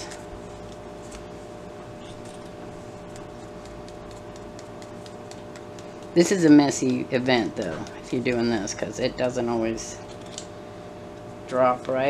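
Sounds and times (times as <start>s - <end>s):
low room hum with tone: 0.0s - 12.0s.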